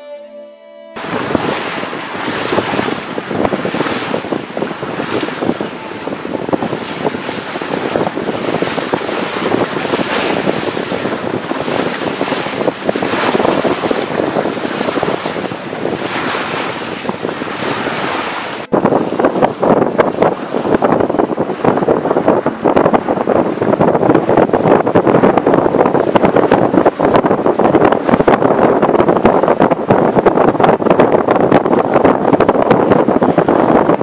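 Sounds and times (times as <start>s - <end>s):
water splashing along hull: 1.0s - 34.0s
wind buffeting microphone: 1.0s - 34.0s.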